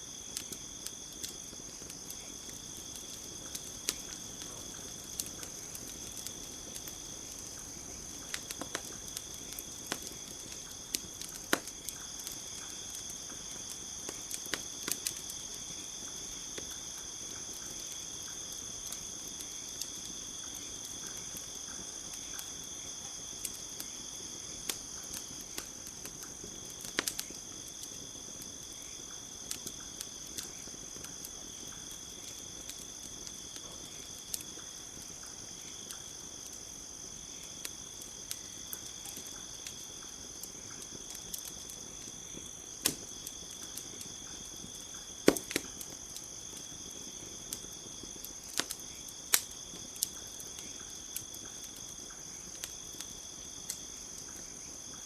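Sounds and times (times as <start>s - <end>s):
campfire crackling and popping: 0.0s - 55.0s
crickets chirring: 0.0s - 55.0s.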